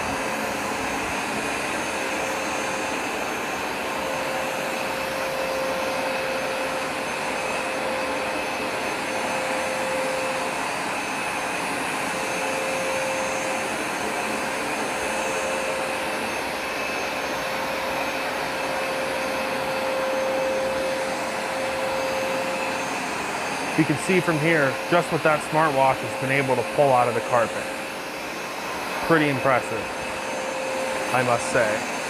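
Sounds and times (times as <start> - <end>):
carpet cleaner suction rush: 0.0 - 32.0
carpet cleaner whine: 0.0 - 32.0.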